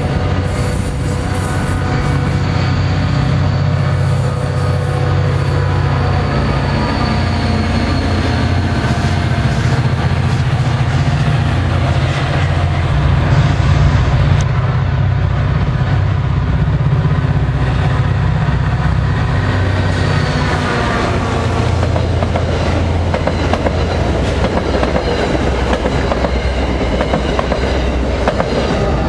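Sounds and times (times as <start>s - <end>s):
diesel locomotive engine running: 0.0s - 29.0s
train wheels on rails: 0.0s - 29.0s.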